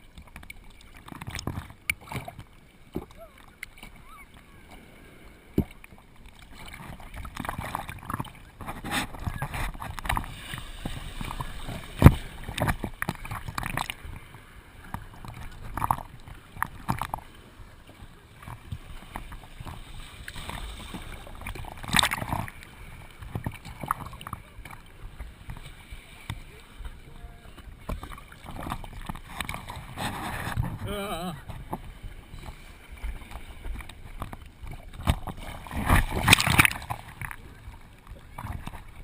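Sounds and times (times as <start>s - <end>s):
surf water sloshing and splashing: 0.0s - 39.0s.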